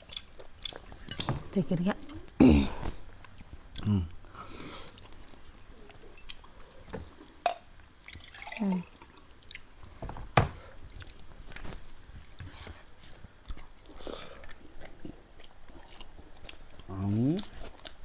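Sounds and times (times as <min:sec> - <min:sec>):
wet chewing and lip smacks: 0:00.0 - 0:01.3, 0:01.9 - 0:08.3, 0:08.9 - 0:09.8, 0:10.8 - 0:18.0.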